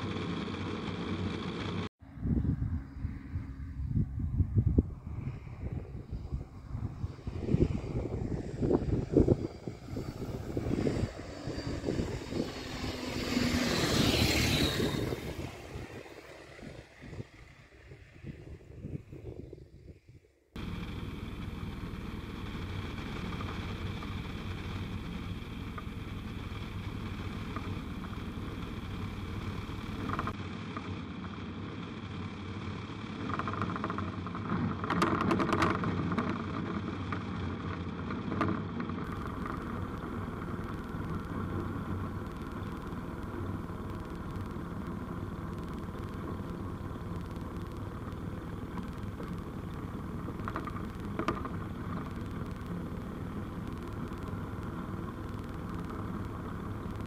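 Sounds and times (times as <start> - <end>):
light aircraft engine running: 0.0 - 57.0
wheels rumbling on runway: 0.0 - 57.0.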